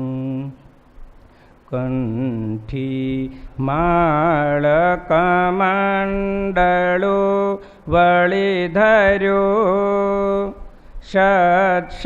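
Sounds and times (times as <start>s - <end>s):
man chanting devotional verse: 1.7s - 12.0s.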